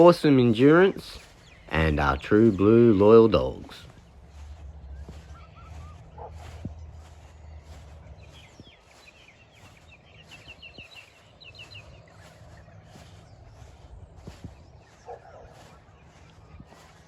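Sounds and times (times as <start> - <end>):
bird twittering: 0.0 - 17.0
soft rhythmic rustle: 0.0 - 17.0
steady low rumble: 3.3 - 17.0.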